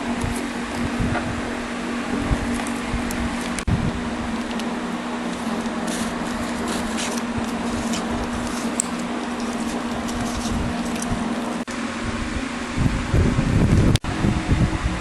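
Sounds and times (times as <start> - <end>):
electric fan air rushing: 0.0 - 15.0
fan motor hum: 0.0 - 15.0.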